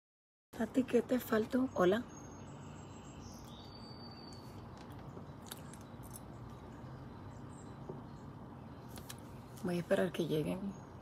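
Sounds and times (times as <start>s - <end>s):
steady low hum and hiss: 0.6s - 11.0s.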